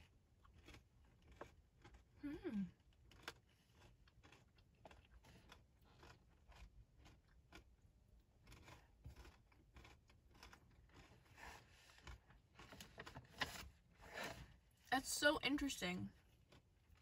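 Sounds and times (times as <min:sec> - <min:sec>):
chewing crisp cracker: 0:00.0 - 0:14.8, 0:16.1 - 0:17.0.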